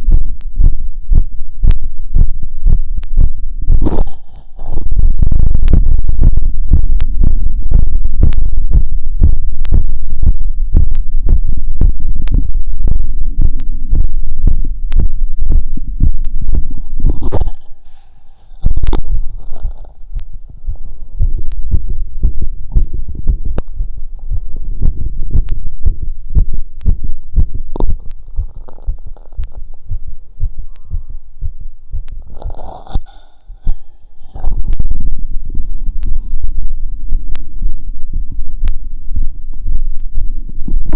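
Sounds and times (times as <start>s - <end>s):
constant low rumble: 0.0s - 40.9s
heart beating through stethoscope: 0.0s - 40.9s.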